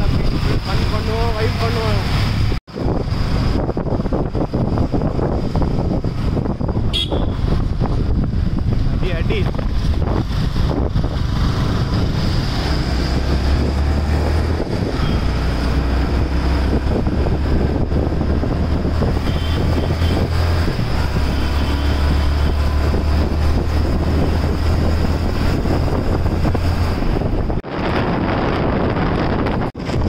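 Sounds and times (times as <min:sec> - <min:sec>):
motorcycle low rumble: 0:00.0 - 0:30.0
wind over microphone: 0:00.0 - 0:30.0.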